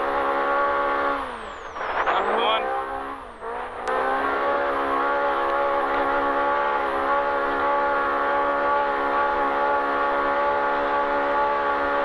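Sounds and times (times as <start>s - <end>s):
engine droning at steady revs: 0.0s - 12.0s.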